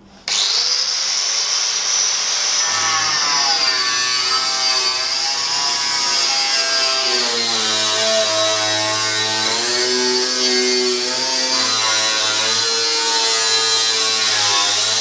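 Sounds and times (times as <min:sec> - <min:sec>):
angle grinder cutting steel: 0:00.2 - 0:15.0.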